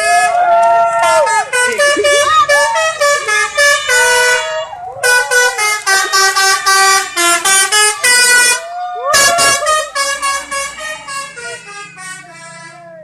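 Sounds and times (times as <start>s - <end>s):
tuned air horns playing melody: 1.0s - 8.6s, 9.2s - 12.8s.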